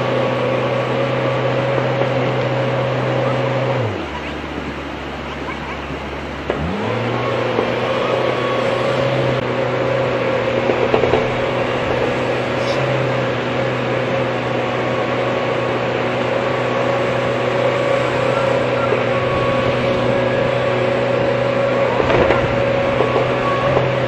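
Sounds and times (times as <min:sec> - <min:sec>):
excavator diesel engine droning: 0:00.0 - 0:24.0.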